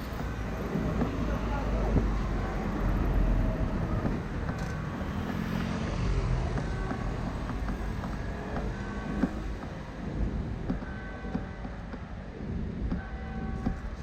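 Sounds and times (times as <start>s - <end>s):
passing vehicles rumbling: 0.0s - 14.0s.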